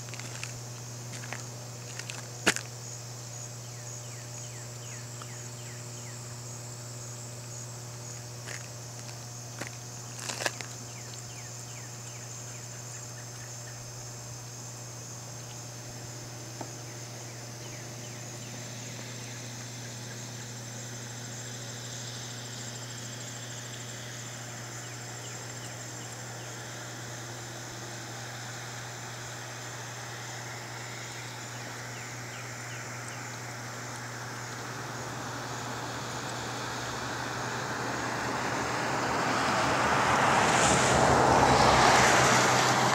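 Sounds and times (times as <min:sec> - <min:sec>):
insects trilling: 0:00.0 - 0:42.9
road noise: 0:00.0 - 0:42.9
steady low hum: 0:00.0 - 0:42.9.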